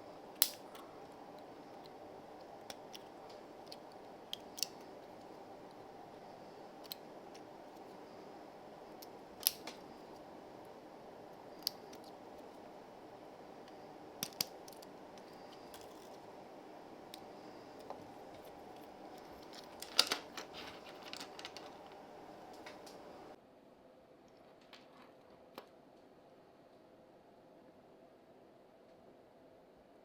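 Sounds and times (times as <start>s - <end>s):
steady hum: 0.0s - 24.3s.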